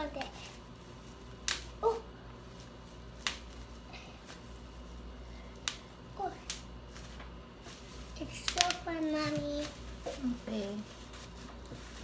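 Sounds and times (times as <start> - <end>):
bubble wrap popping: 0.0 - 12.0.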